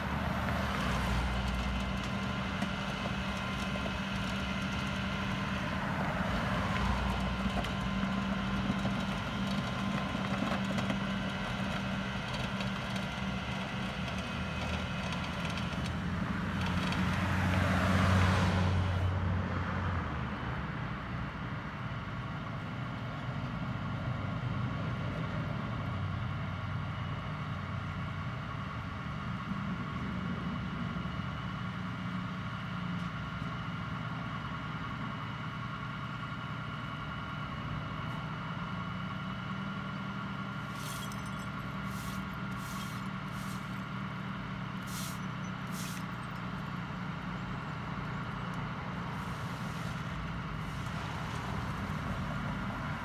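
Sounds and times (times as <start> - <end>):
truck engine idling: 0.0 - 17.7, 20.6 - 53.0.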